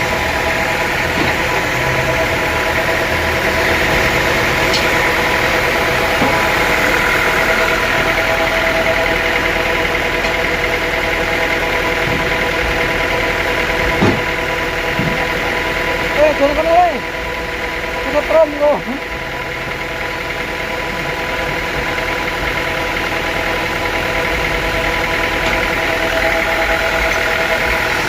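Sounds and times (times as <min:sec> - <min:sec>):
sawmill machinery drone: 0:00.0 - 0:28.0.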